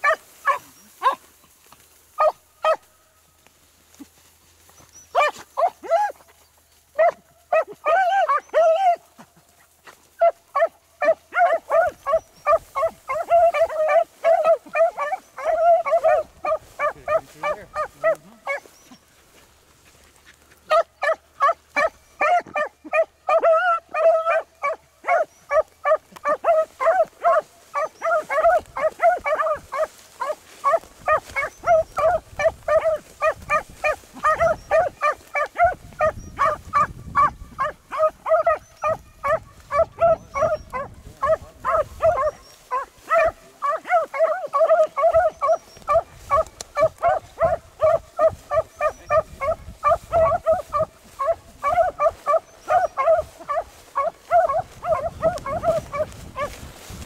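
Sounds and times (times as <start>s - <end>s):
dogs barking in quick barks: 0.0s - 1.2s, 2.2s - 2.9s, 5.1s - 6.2s, 7.0s - 9.0s, 10.2s - 18.7s, 20.7s - 56.6s.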